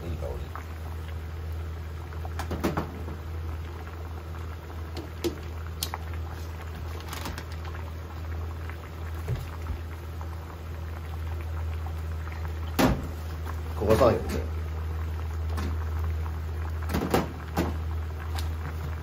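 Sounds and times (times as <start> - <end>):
water boiling in a pan: 0.0 - 19.0.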